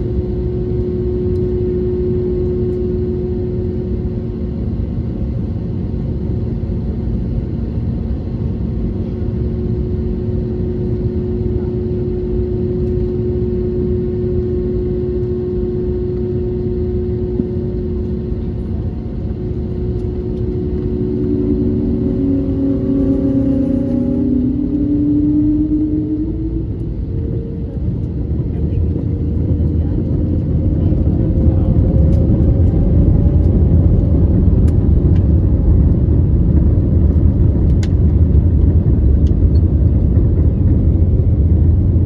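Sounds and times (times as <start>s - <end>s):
jet engines idling in cabin: 0.0s - 42.0s.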